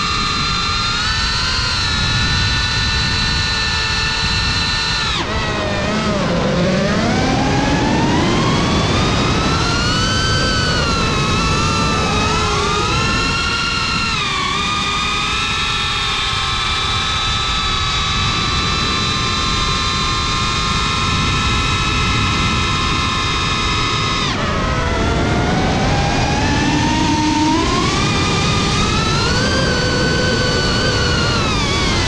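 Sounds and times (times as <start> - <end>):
drone propellers whining: 0.0 - 32.0
wind rumble on microphone: 0.0 - 32.0.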